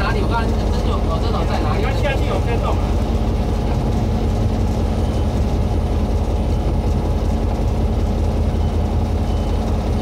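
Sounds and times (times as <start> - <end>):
locomotive engine droning: 0.0 - 10.0.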